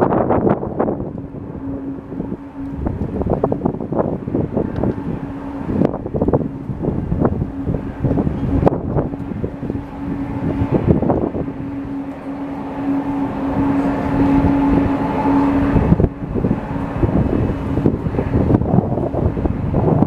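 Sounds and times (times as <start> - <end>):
distant jet engine drone: 0.0 - 20.0
wind buffeting microphone: 0.0 - 20.0.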